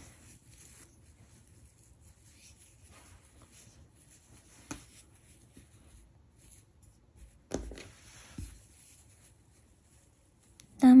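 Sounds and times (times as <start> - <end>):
crocheting handling noises: 0.0 - 10.8.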